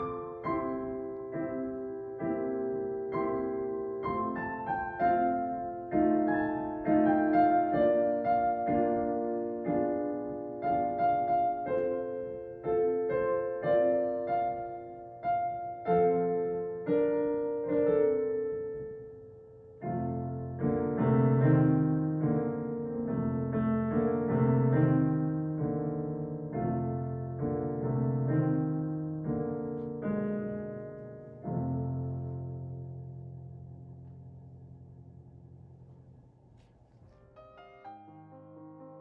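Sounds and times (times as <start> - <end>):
slow gentle piano piece: 0.0 - 39.0.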